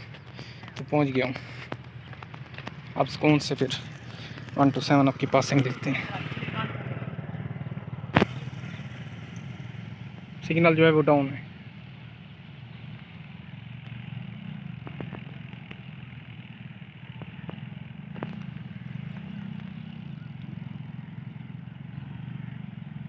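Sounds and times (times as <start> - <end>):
locomotive engine drone: 0.0 - 23.0.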